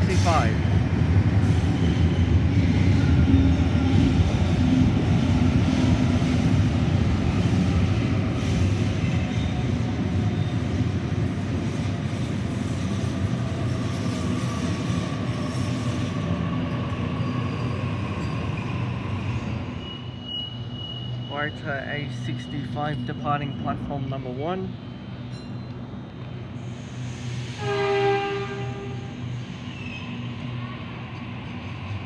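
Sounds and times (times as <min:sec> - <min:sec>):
electric train rumbling: 0:00.0 - 0:32.0.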